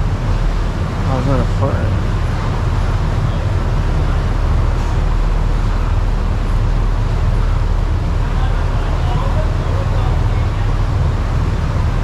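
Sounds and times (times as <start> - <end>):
machinery rumble: 0.0 - 12.0.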